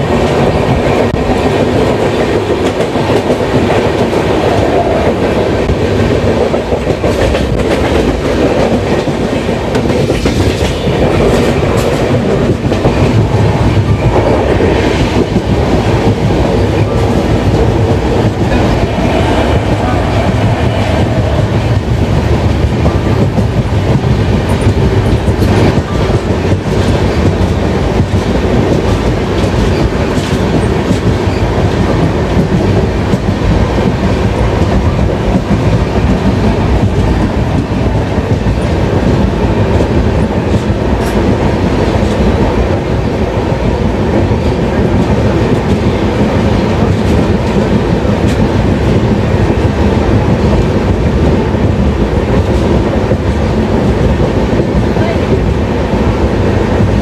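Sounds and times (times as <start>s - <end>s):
passenger train rumbling: 0.0s - 57.0s.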